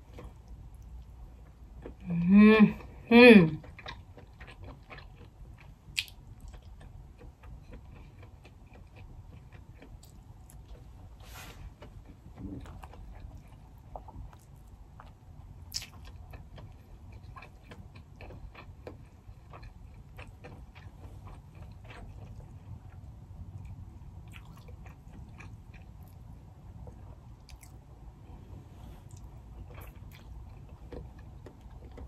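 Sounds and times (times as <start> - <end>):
chewing seafood: 3.6 - 32.0.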